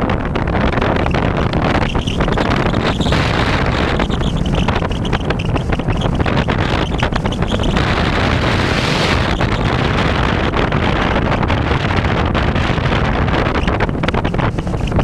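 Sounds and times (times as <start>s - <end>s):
wind rush and buffeting: 0.0s - 15.0s.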